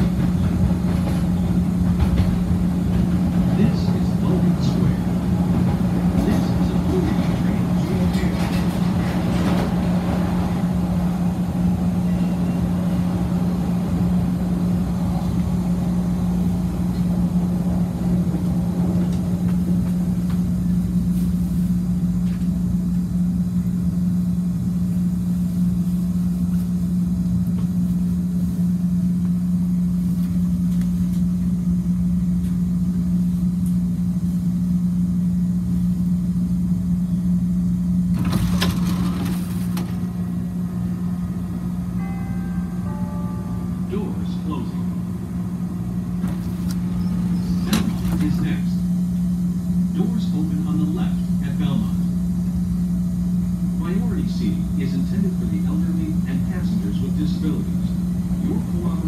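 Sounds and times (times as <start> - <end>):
steady low hum: 0.0 - 59.0
train wheels rumbling in tunnel: 0.0 - 59.0.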